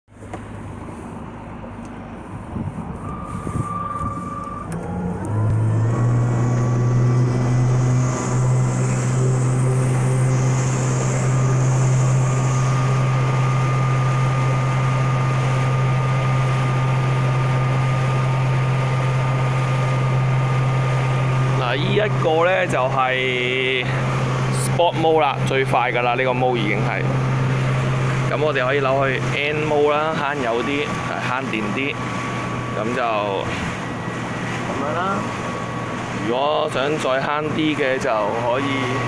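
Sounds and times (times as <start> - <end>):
wind: 0.1 - 39.0
electric outboard motor whine: 0.2 - 39.0.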